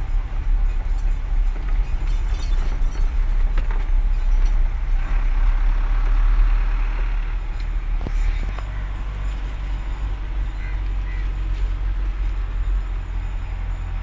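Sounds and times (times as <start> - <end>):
heavy truck engine rumble: 0.0 - 14.0.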